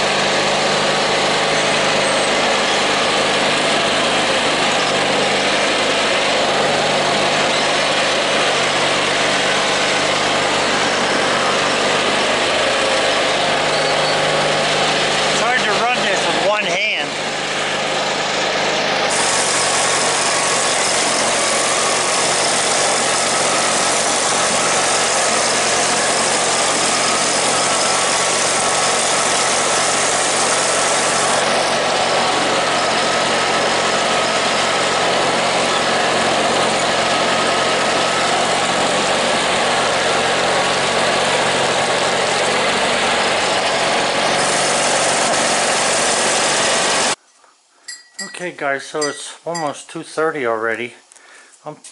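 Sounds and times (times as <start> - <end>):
snow-clearing machine engine running: 0.0 - 47.2.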